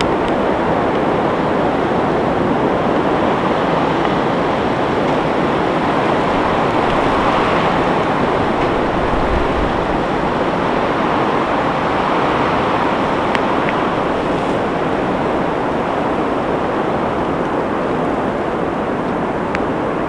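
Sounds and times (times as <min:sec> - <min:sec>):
blizzard wind blowing: 0:00.0 - 0:20.0.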